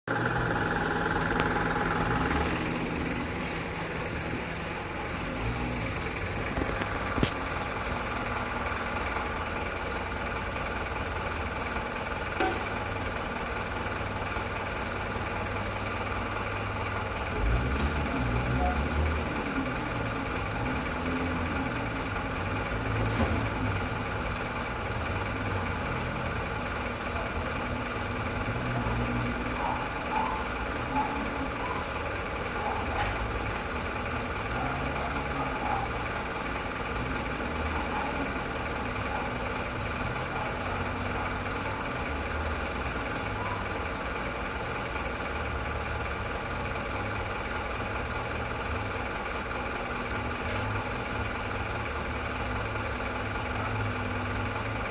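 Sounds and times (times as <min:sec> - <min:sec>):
truck engine droning: 0:00.0 - 0:54.9.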